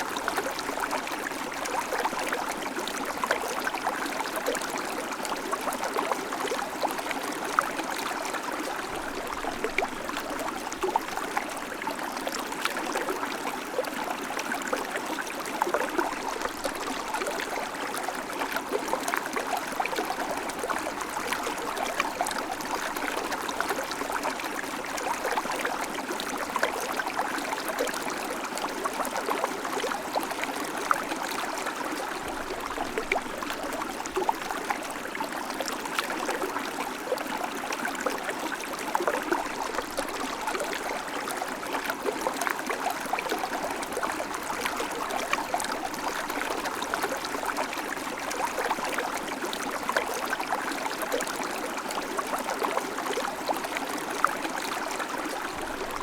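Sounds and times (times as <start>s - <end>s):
river water flowing over stones: 0.0s - 56.0s.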